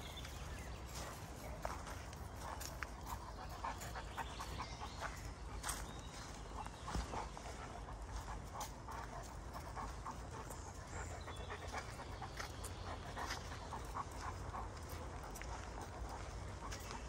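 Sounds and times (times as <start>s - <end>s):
dog panting: 0.0s - 17.0s
footsteps on dirt path: 0.0s - 17.0s.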